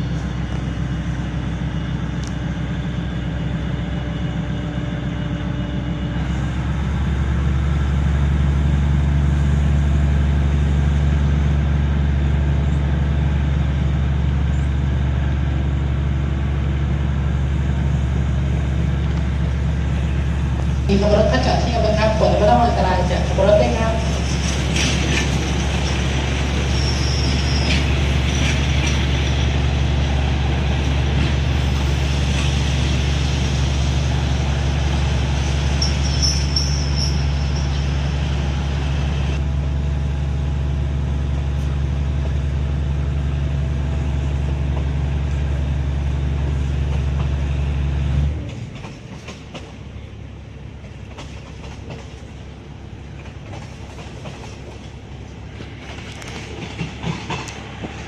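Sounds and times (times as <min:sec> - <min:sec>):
rail and wheel noise: 0:00.0 - 0:58.0
train low drone: 0:00.0 - 0:58.0.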